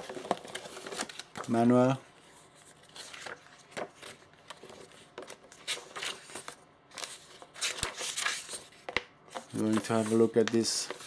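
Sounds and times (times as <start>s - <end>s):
rustling of packaging: 0.0s - 11.0s.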